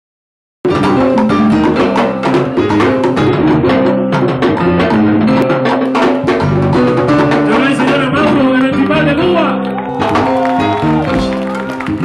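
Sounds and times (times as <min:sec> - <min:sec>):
live salsa band playing: 0:00.6 - 0:12.0.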